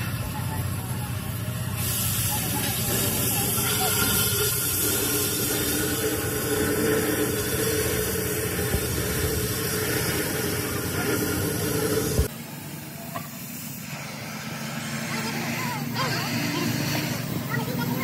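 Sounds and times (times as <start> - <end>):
cutting torch hissing: 0.3 - 18.0.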